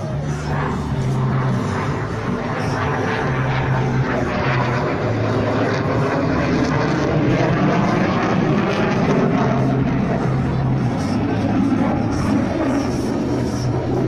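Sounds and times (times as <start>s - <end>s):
military airplane engine: 0.0s - 14.0s.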